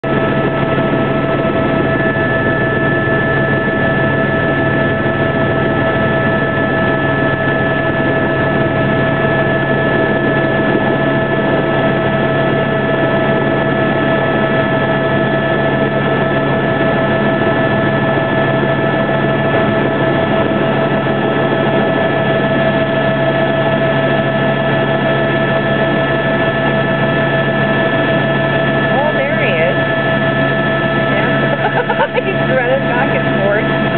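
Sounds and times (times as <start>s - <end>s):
helicopter engine whine: 0.0s - 33.9s
helicopter rotor rush: 0.0s - 33.9s.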